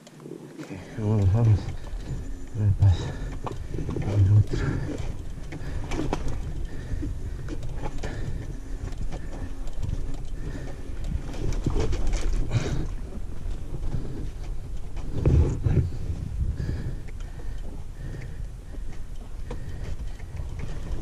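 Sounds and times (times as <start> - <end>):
wind on microphone: 1.2 - 21.0.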